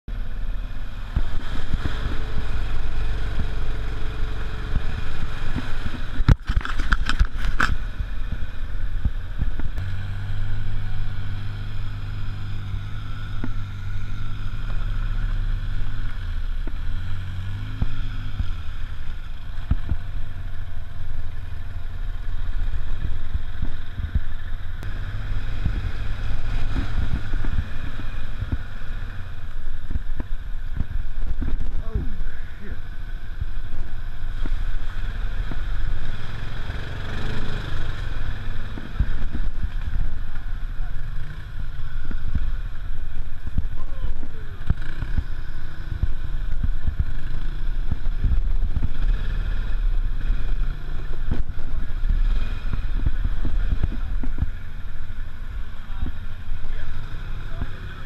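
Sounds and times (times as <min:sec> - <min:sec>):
atv engine running: 0:00.1 - 0:58.0
knocks and rattles over rough ground: 0:00.9 - 0:09.8, 0:14.5 - 0:58.0.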